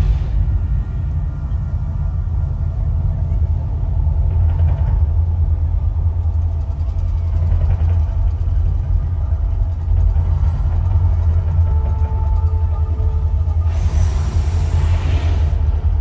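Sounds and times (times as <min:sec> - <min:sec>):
deep rumble: 0:00.0 - 0:16.0.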